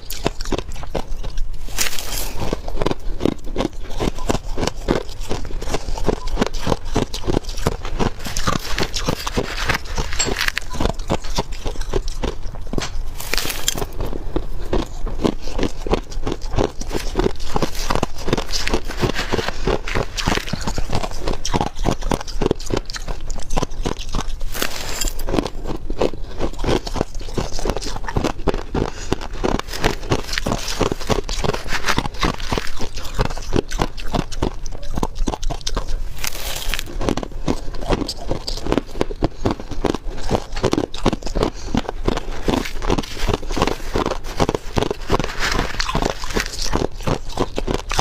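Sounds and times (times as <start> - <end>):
crunching and chewing ice: 0.0 - 48.0.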